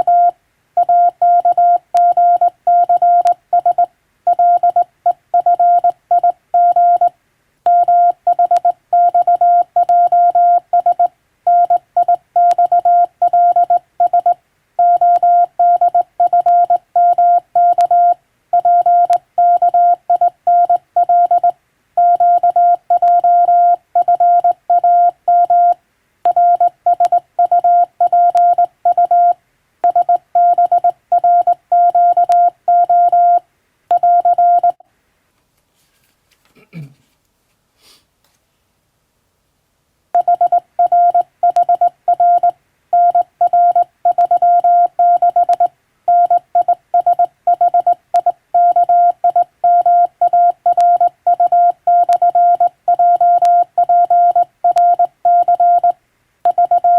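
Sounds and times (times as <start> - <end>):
morse code beeps: 0.0 - 4.8, 5.4 - 7.1, 7.7 - 34.8, 40.2 - 56.9.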